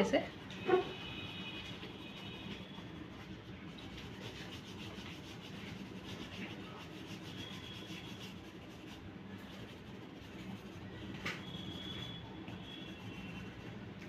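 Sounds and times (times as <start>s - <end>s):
oil pastel rubbing on paper: 0.6s - 13.9s.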